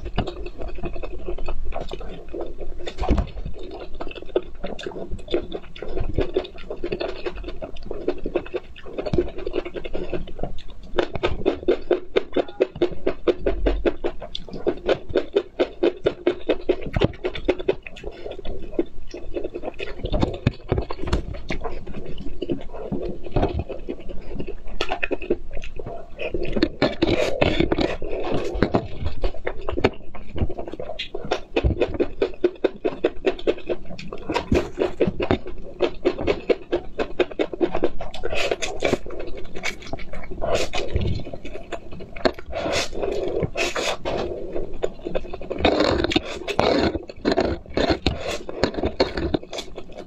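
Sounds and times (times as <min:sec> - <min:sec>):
mouth clicks while chewing: 0:00.0 - 0:50.0
noodles slurped: 0:00.0 - 0:50.0.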